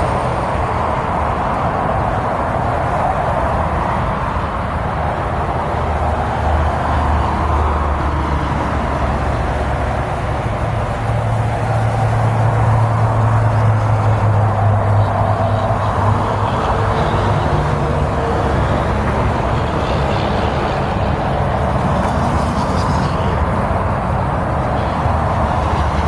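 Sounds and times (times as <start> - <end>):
cars passing on highway: 0.0 - 26.0.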